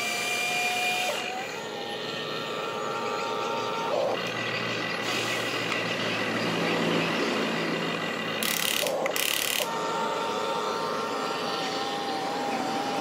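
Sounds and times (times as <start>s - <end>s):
electric motors and gears whining: 0.0s - 13.0s.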